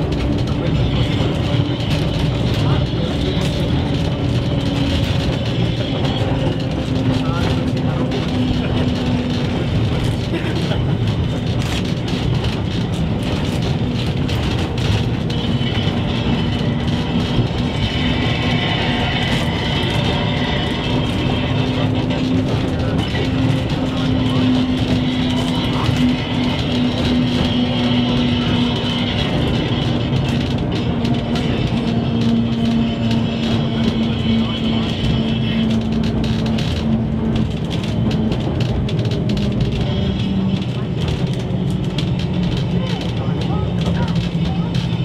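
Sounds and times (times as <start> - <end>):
tram running on rails: 0.0 - 45.0.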